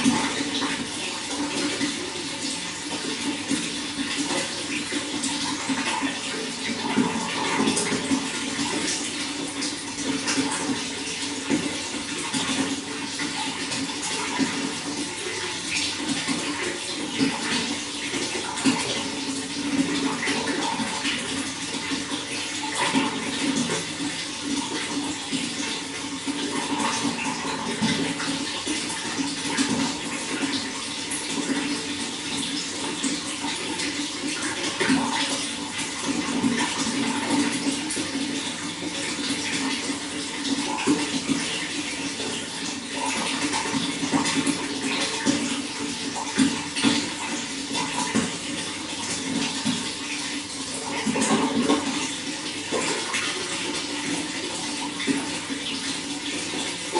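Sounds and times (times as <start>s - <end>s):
water flowing and splashing: 0.0s - 56.9s.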